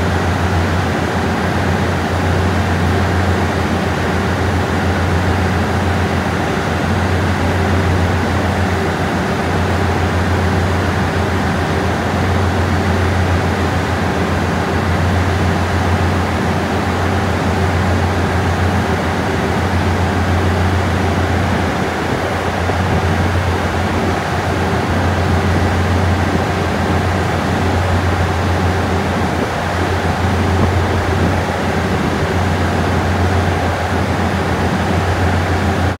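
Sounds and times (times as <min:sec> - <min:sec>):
diesel train engine idling: 0:00.0 - 0:36.0.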